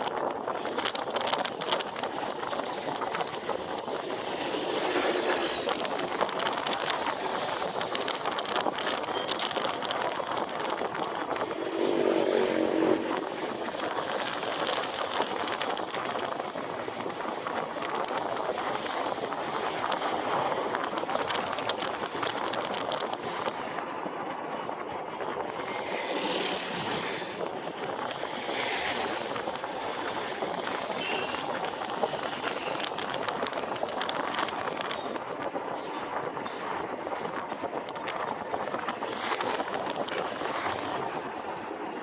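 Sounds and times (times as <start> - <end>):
wind and road noise: 0.0 - 42.0.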